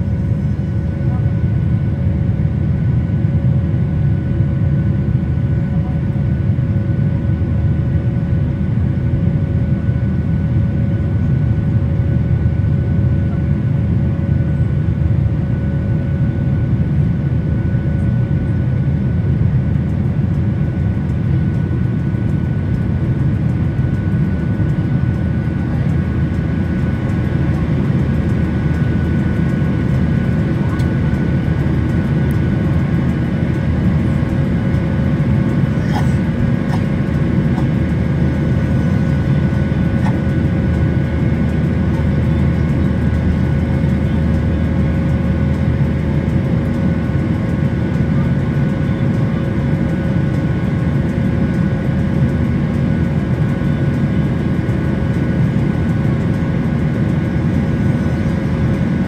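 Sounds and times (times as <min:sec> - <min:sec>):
jet engine cabin noise: 0:00.0 - 0:59.0.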